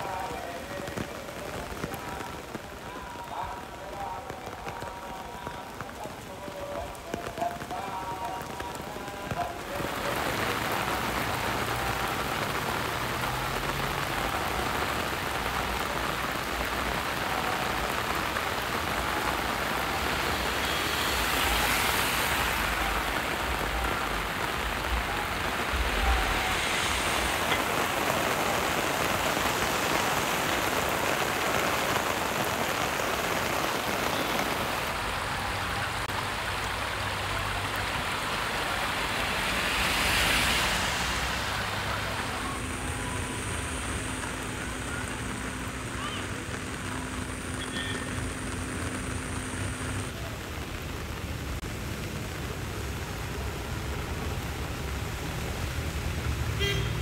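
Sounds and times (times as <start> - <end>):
heavy rain on pavement: 0.0 - 57.0.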